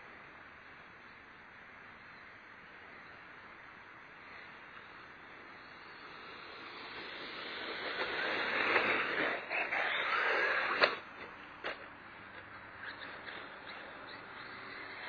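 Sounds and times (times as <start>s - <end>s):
rc truck motor and tyres on dirt: 0.0s - 15.0s.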